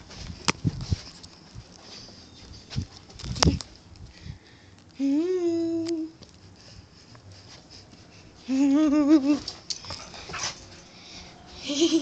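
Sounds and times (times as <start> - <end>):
clicks and scuffs: 0.0 - 5.0, 5.8 - 8.4, 9.2 - 11.3.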